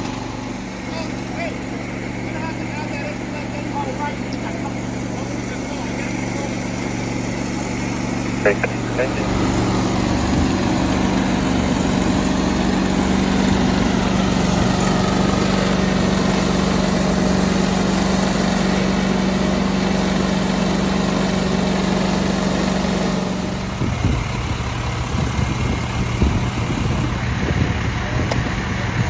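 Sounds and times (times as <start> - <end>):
engine idling: 0.0 - 29.0
low rough engine sound: 0.0 - 29.0.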